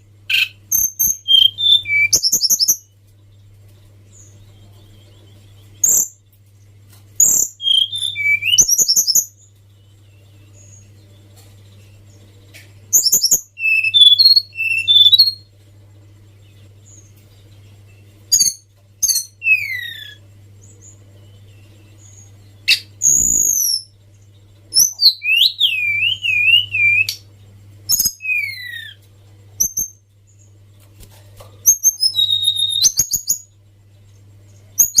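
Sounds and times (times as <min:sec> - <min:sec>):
songbird singing: 0:00.0 - 0:35.0
steady low hum: 0:00.0 - 0:35.0.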